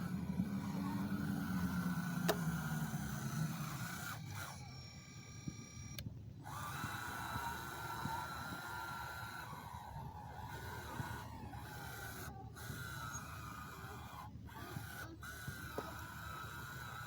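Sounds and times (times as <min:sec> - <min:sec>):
small electric motor humming: 0:00.0 - 0:17.0.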